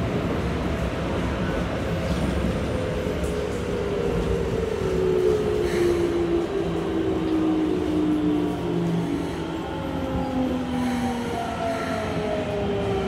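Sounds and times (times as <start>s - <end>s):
rumble of train wheels: 0.0s - 13.0s.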